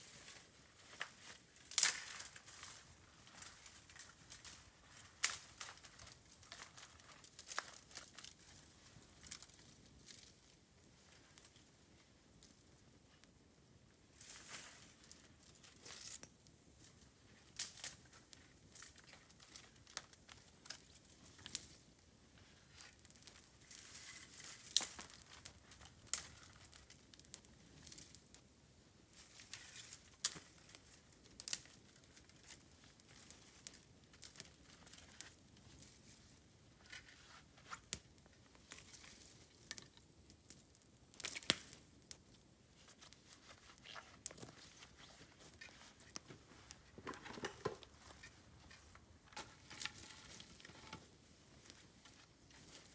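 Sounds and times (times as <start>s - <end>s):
bamboo crackling and snapping: 0.0s - 10.5s, 14.2s - 21.9s, 22.7s - 28.4s, 29.2s - 52.9s.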